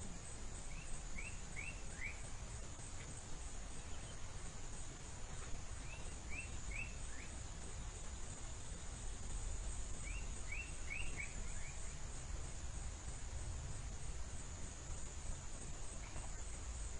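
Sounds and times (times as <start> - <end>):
high insect trill: 0.0 - 16.9.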